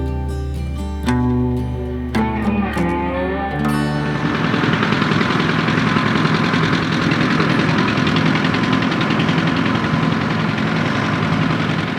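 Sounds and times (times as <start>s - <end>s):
tractor engine pulsing: 0.0s - 11.9s.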